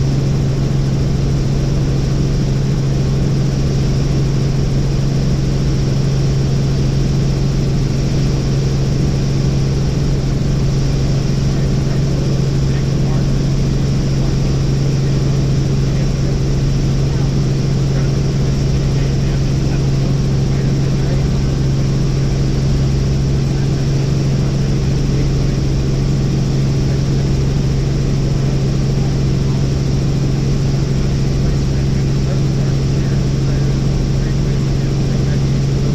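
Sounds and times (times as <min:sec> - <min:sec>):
helicopter engine and rotor drone: 0:00.0 - 0:35.9.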